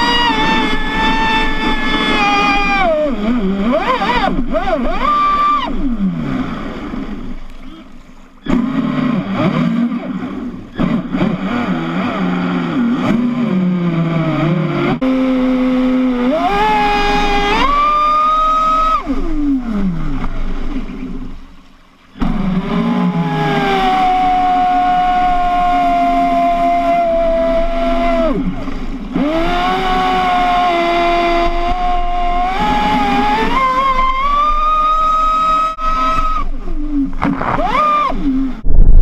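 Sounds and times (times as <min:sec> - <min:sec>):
electric motor whining: 0:00.0 - 0:07.2, 0:08.5 - 0:20.3, 0:22.2 - 0:38.8.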